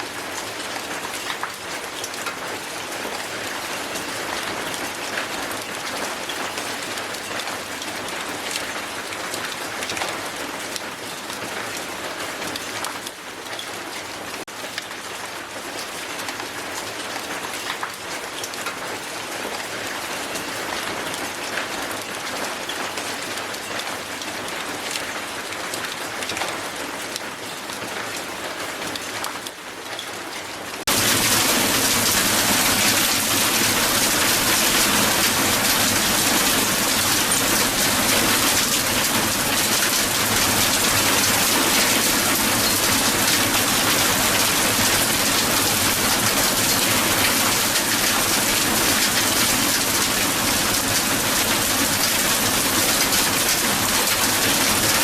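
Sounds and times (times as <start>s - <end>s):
hail falling on ground: 0.0s - 55.0s.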